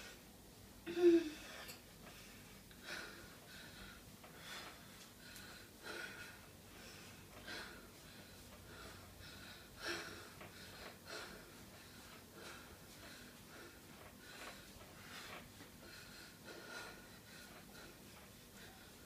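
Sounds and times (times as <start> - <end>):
person breathing hard: 0.9 - 19.0.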